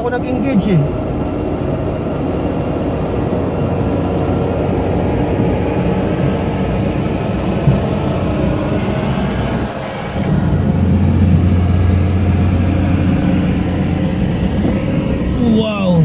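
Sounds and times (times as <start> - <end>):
car engine and tyres droning: 0.0 - 16.0.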